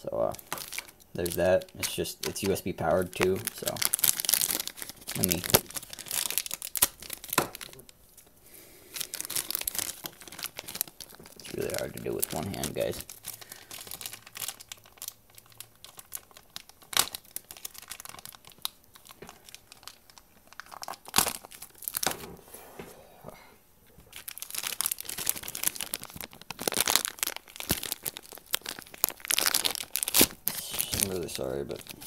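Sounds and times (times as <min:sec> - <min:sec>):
plastic bag crinkling: 0:00.1 - 0:22.3, 0:24.0 - 0:32.0.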